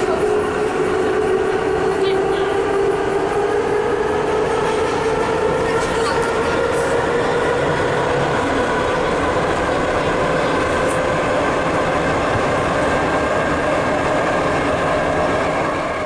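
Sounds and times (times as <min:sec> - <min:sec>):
wheels rumbling on rails: 0:00.0 - 0:16.0.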